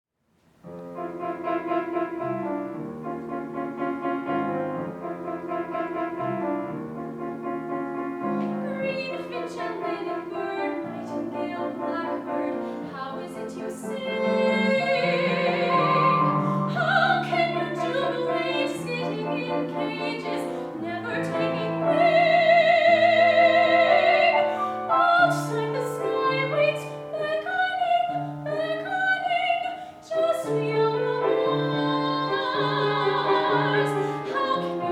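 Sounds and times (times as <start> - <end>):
piano accompaniment: 0.4 - 34.9
soprano singing: 0.8 - 34.9.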